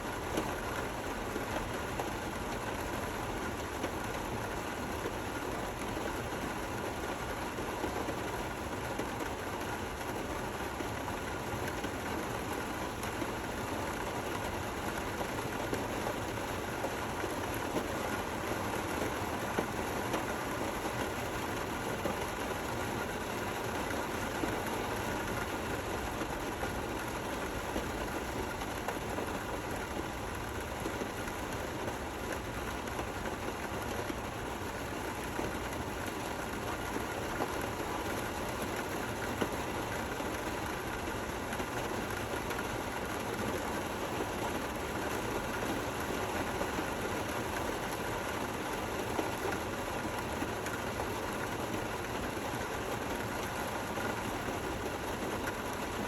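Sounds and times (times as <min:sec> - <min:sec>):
gentle rain patter: 0:00.0 - 0:56.0.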